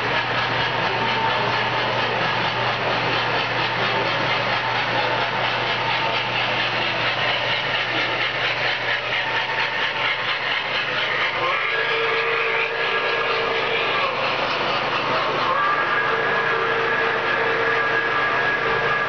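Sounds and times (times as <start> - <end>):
model train wheels clattering: 0.0 - 19.0.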